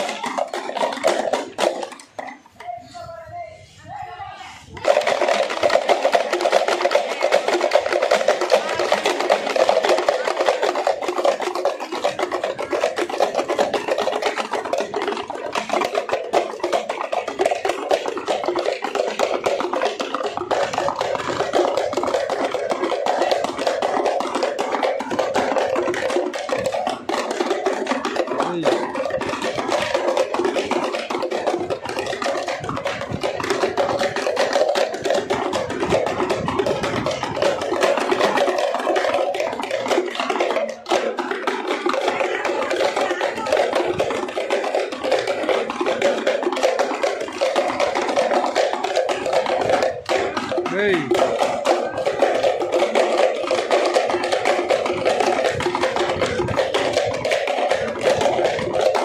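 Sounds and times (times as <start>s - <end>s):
frame drums beaten with sticks: 0.0s - 59.0s.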